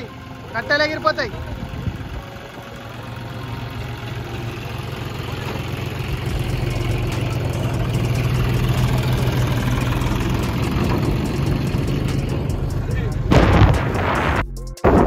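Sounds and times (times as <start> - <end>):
vehicle engine running: 0.0 - 14.4.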